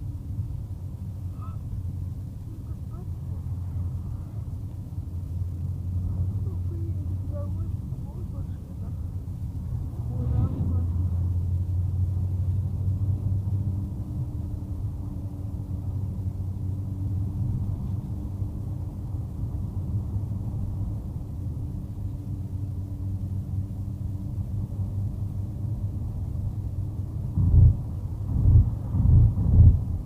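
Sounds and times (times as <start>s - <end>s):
car engine drone: 0.0s - 30.0s
road rumble: 0.0s - 30.0s.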